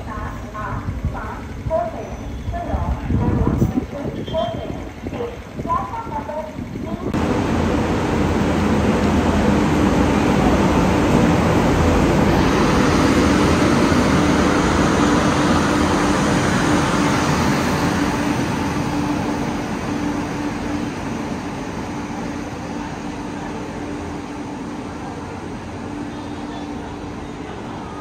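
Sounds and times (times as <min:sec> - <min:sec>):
train running past: 0:00.0 - 0:28.0.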